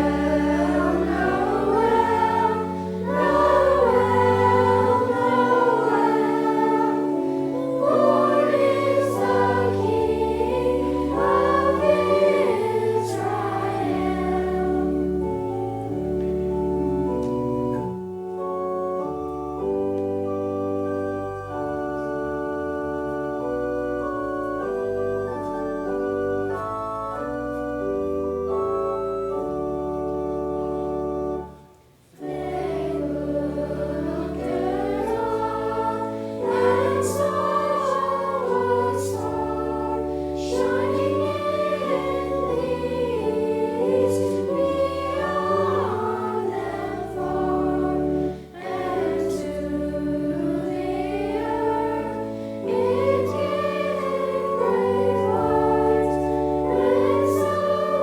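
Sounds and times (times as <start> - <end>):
church organ playing: 0.0 - 58.0
voices singing a hymn: 0.0 - 58.0.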